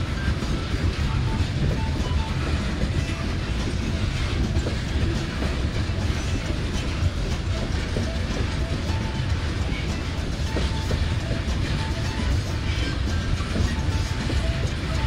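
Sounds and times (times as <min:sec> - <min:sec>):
clickety-clack over rail joints: 0:00.0 - 0:15.0
train wheels rumbling on rails: 0:00.0 - 0:15.0.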